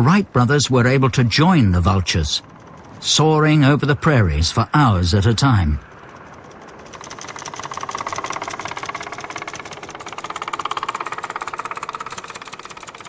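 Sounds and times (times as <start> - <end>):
biplane piston engine: 0.0 - 13.0.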